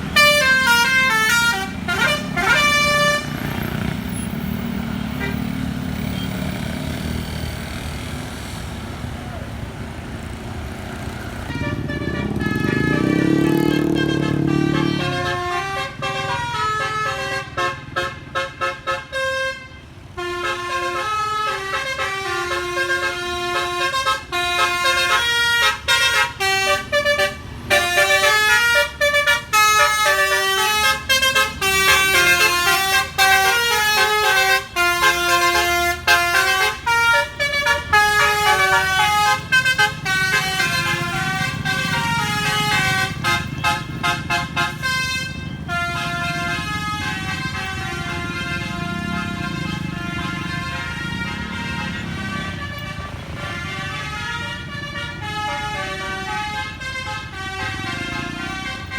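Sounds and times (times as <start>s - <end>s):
musical bus horn melodies: 0.0s - 8.8s, 10.2s - 58.9s
deeper rising horn tone: 0.0s - 9.2s, 10.2s - 18.2s, 20.4s - 58.9s.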